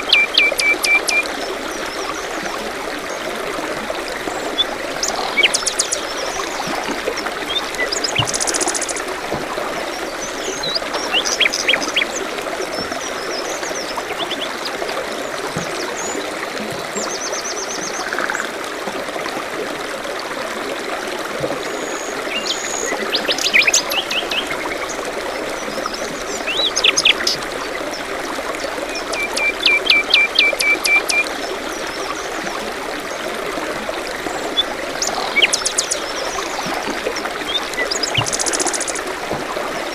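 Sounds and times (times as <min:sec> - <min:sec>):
songbirds chirping: 0:00.0 - 0:18.5, 0:21.7 - 0:33.4, 0:34.1 - 0:39.9
stream trickling: 0:00.0 - 0:39.9.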